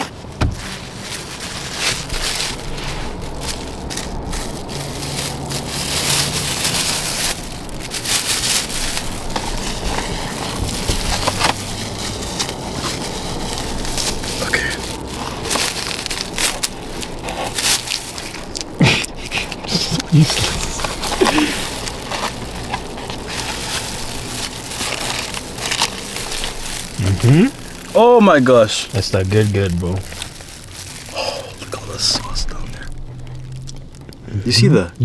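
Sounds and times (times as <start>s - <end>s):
crunching fried chicken: 0.0s - 35.0s.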